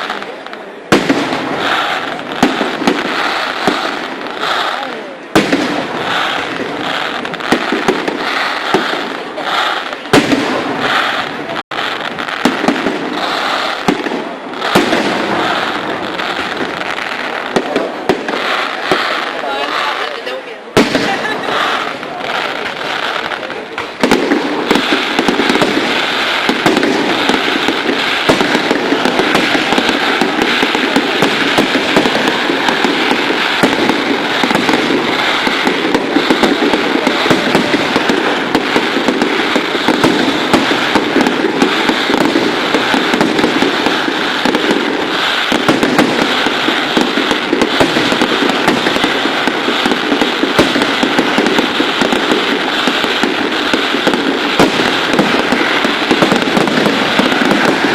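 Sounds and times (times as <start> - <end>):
fireworks crackling bangs: 0.0 - 57.9.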